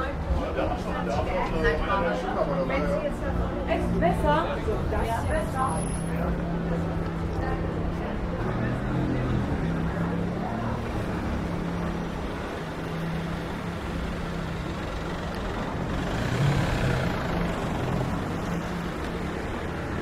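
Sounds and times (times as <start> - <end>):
large vehicle engine hum: 0.0 - 20.0
street noise: 0.0 - 20.0.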